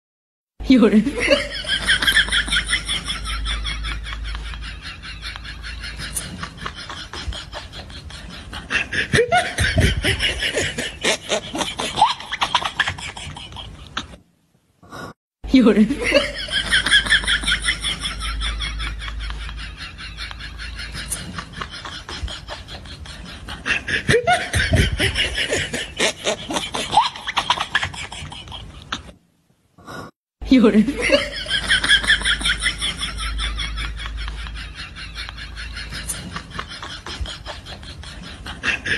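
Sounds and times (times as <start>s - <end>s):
person laughing and snickering: 1.1s - 14.2s, 15.9s - 29.2s, 30.8s - 38.9s.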